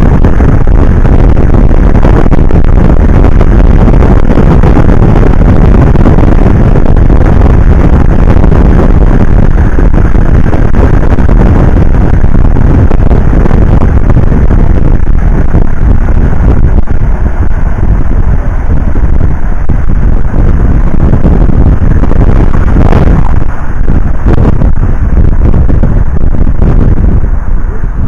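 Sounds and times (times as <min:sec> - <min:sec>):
vehicle road noise: 0:00.0 - 0:28.0
wind buffeting microphone: 0:00.0 - 0:28.0.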